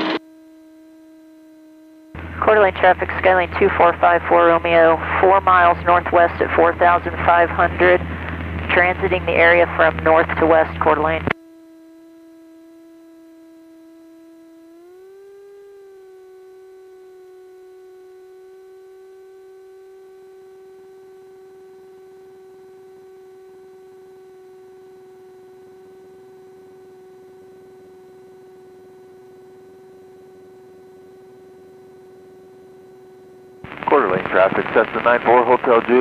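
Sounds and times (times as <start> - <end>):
steady electrical whine: 0.0 - 36.0.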